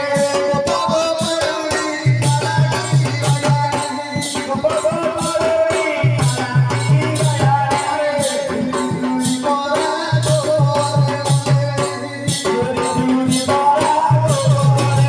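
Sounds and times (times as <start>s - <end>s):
drum: 0.0s - 15.0s.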